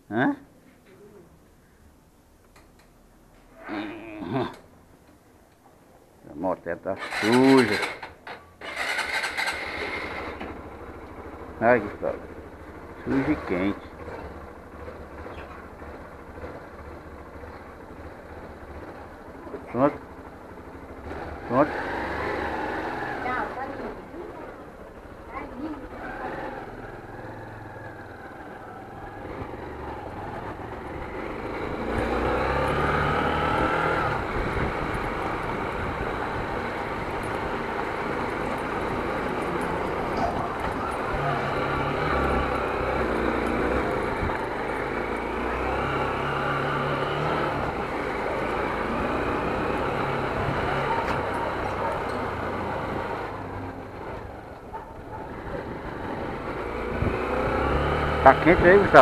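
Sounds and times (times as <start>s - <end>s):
motorcycle engine revving: 6.9s - 59.0s.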